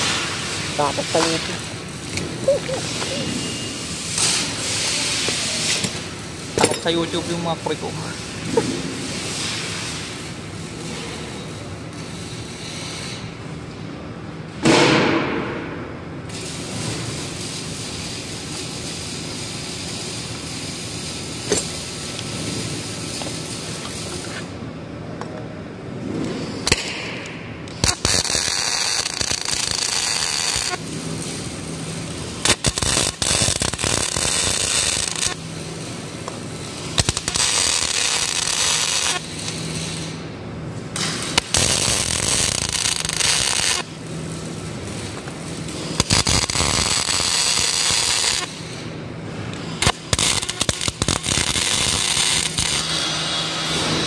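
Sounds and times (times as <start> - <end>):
welding arc crackling: 0.0 - 13.4, 16.2 - 24.6, 26.0 - 54.0
workshop background noise: 0.0 - 54.0.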